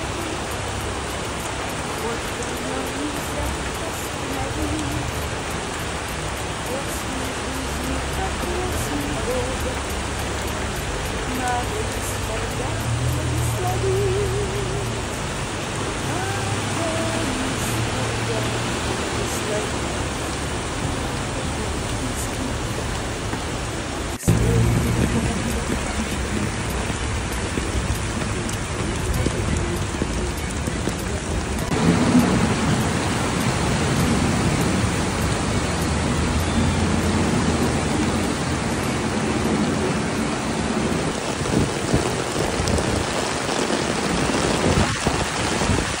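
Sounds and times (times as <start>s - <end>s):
heavy rain hiss: 0.0s - 46.0s
water rushing over street: 0.0s - 46.0s.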